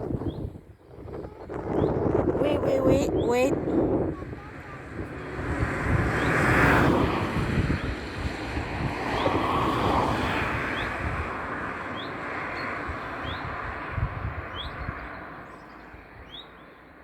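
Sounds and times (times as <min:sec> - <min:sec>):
wind rushing over microphone: 0:00.0 - 0:16.5.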